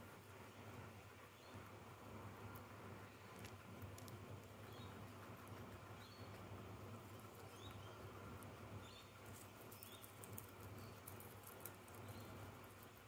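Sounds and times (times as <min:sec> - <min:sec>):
guinea pigs chewing: 0:00.0 - 0:13.0.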